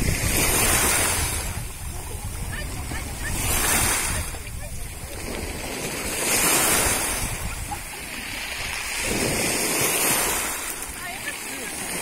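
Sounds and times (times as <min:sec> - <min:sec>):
sea water lapping: 0:00.0 - 0:12.0
wind buffeting microphone: 0:00.0 - 0:12.0.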